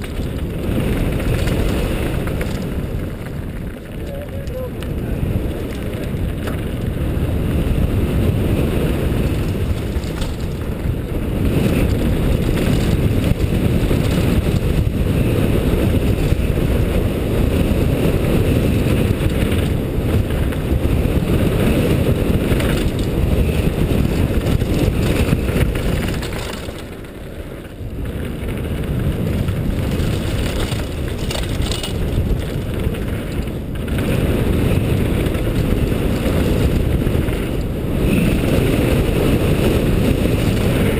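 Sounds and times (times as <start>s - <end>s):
bike tyres rolling over gravel: 0.0s - 40.9s
wind rumbling on camera: 0.0s - 40.9s.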